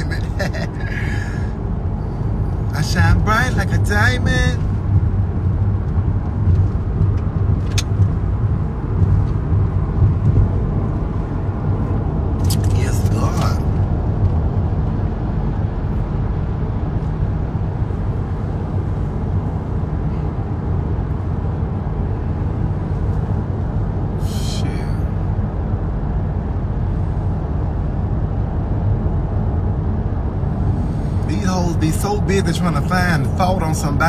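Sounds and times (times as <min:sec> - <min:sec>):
car cabin rumble: 0:00.0 - 0:34.0.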